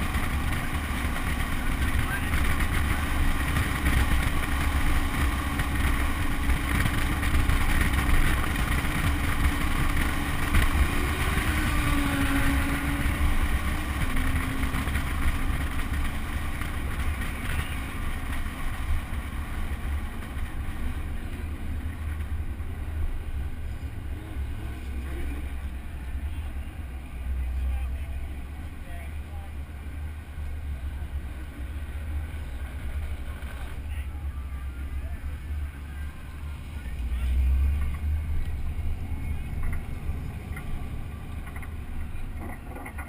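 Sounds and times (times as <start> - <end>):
car engine rumbling: 0.0 - 43.0.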